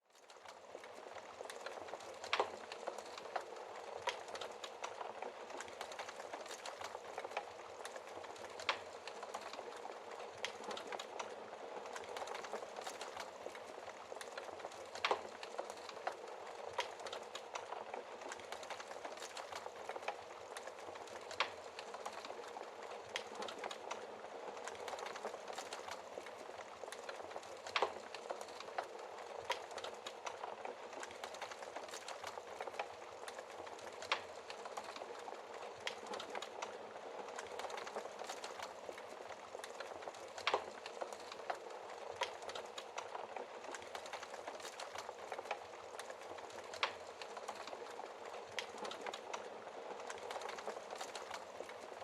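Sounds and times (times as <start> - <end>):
wood fire crackling: 0.2 - 52.0.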